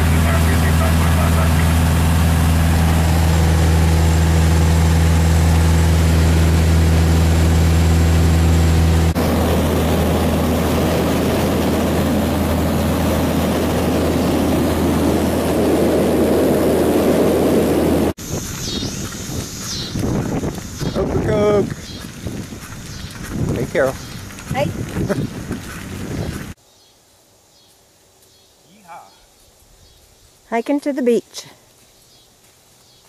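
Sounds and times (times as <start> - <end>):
light plane engine droning: 0.0 - 26.6
noisy rush: 0.0 - 26.6.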